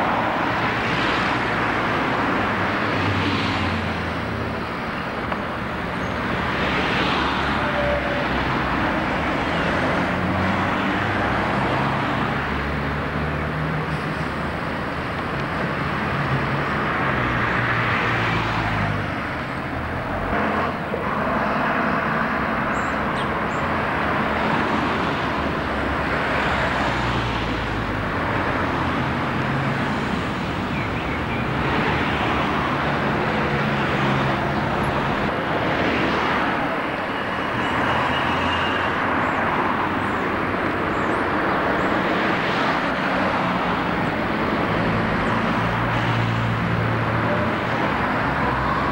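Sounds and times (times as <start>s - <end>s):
bus and car engines: 0.0s - 48.9s.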